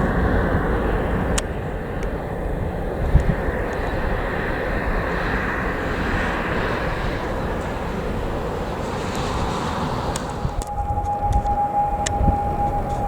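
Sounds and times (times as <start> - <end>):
airliner engines rushing: 0.0 - 13.0
wind buffeting microphone: 0.0 - 13.0.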